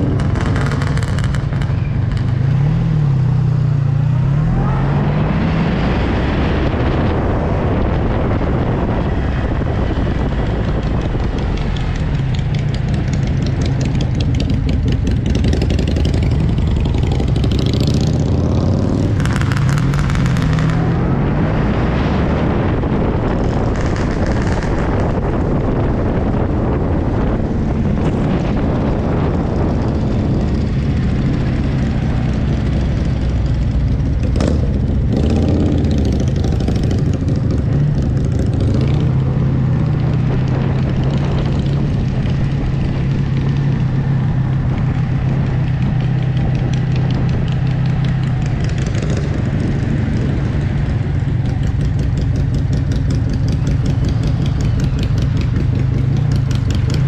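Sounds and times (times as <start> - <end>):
motorcycle engine revving: 0.0 - 57.0
steady rush of road noise: 0.0 - 57.0.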